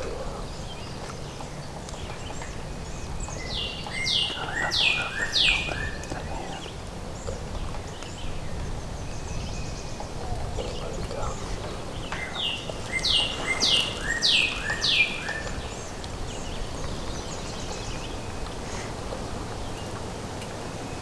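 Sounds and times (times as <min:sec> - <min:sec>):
wind noise on microphone: 0:00.0 - 0:21.0
faint bird chirps: 0:02.0 - 0:19.0.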